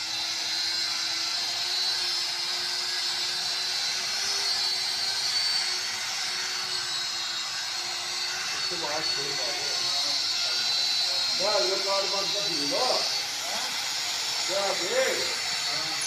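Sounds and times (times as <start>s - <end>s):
high-speed power tool whining: 0.0s - 16.0s.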